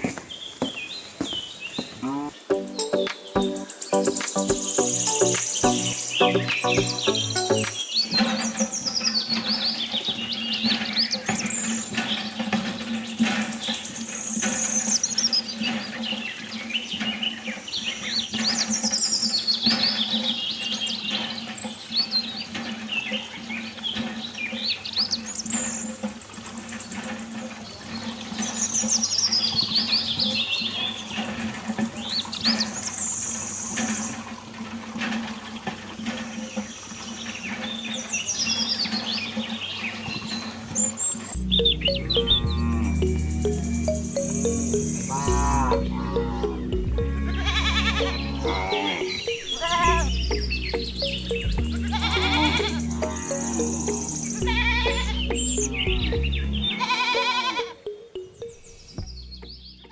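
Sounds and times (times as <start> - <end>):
birds chirping and singing: 0.0 - 34.2, 36.0 - 59.9.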